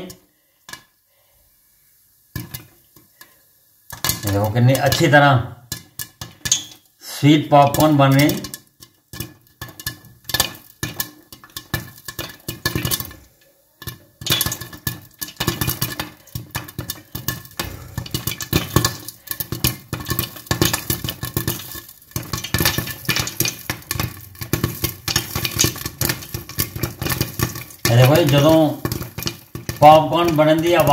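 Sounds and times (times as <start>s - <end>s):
popcorn popping in a lidded pan: 0.0s - 0.9s, 2.3s - 30.9s.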